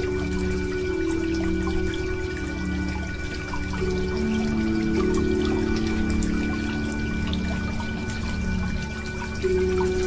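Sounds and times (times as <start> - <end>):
falling rain: 0.0 - 10.0
slow meditation music: 0.0 - 10.0
water drips: 0.0 - 10.0.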